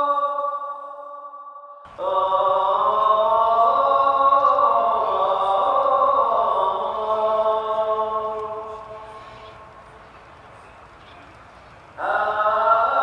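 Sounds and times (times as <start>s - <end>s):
choir-like voices holding chords: 0.0s - 13.0s.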